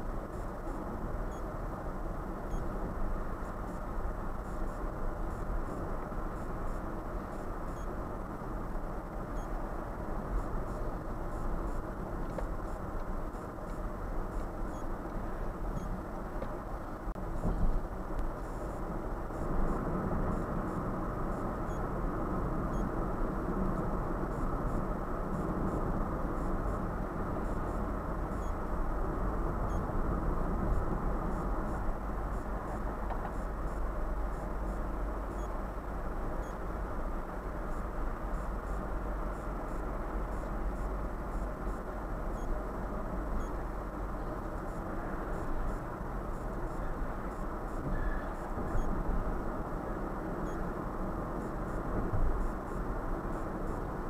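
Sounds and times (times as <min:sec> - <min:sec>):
car engine rumble: 0:00.0 - 0:54.0
road and tyre noise: 0:00.0 - 0:54.0.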